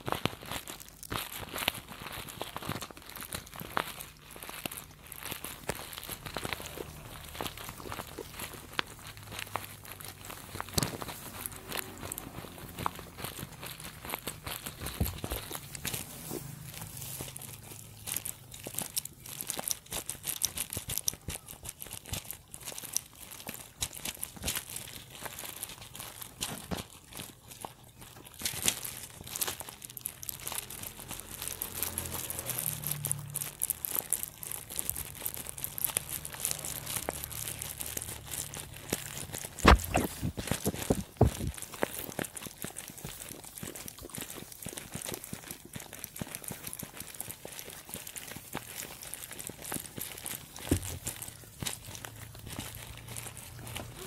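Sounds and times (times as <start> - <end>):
animals tearing and chewing grass: 0.0 - 54.0.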